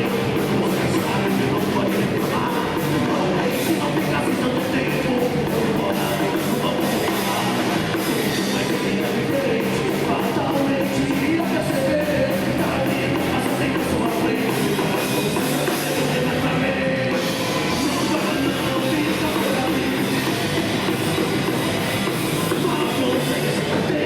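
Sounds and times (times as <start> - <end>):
distorted electric guitars: 0.0 - 24.0
heavy rock band playing: 0.0 - 24.0
pounding drum kit: 0.0 - 24.0.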